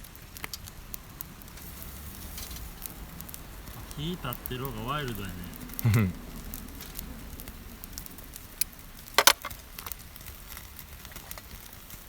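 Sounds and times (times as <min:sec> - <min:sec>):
charcoal fire crackling and popping: 0:00.0 - 0:12.0.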